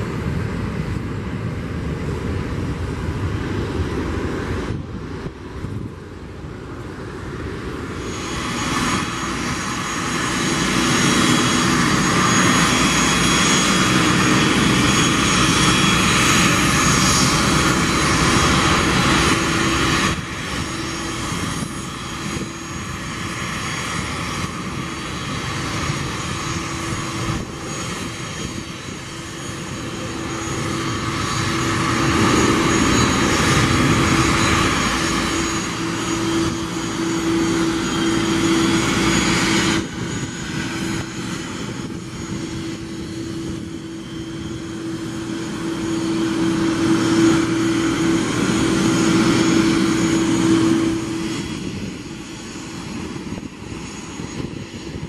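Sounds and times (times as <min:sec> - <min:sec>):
high engine whine: 0:00.0 - 0:55.0
jet engines roaring: 0:00.0 - 0:55.0.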